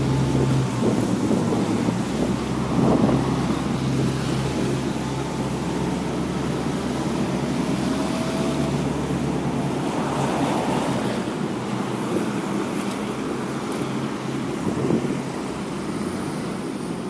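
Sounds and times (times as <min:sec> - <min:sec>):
low engine hum: 0:00.0 - 0:17.0
tyres hissing on wet road: 0:00.0 - 0:17.0.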